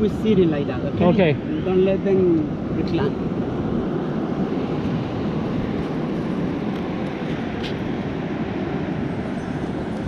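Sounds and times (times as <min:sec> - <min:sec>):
boat engine and wind rumble: 0:00.0 - 0:10.0.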